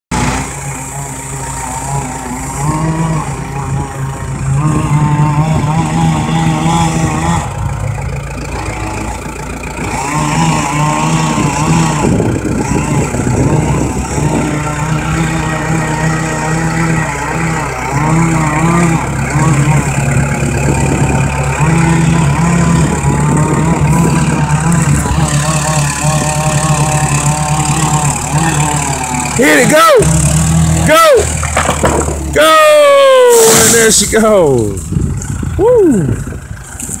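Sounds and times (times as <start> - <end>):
engine running: 0.1 - 37.0.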